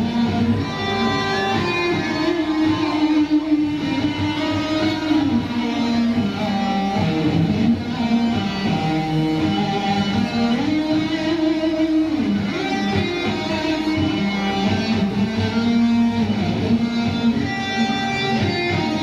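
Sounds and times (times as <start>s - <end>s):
electric guitar: 0.0s - 19.0s.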